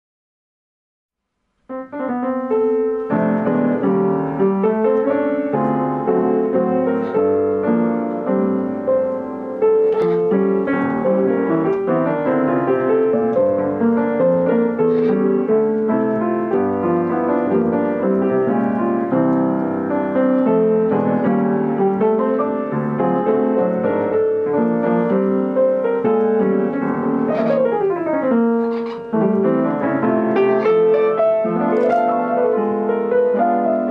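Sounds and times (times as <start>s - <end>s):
piano playing: 1.7s - 33.9s.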